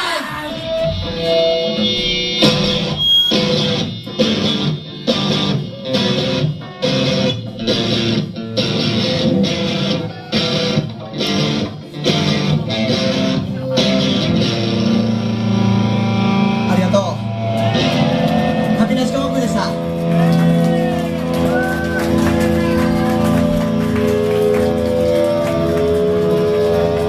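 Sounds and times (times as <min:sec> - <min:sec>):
punk rock band playing: 0:00.0 - 0:27.0.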